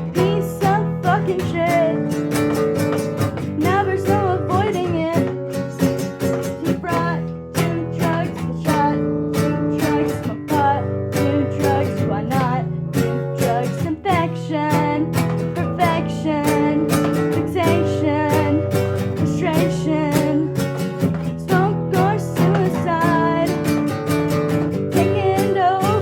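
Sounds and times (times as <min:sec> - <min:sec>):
person singing: 0:00.0 - 0:26.0
strummed guitar: 0:00.0 - 0:26.0.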